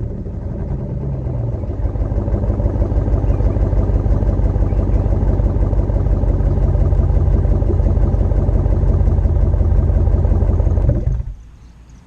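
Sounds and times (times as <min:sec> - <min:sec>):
engine idling: 0:00.0 - 0:11.5.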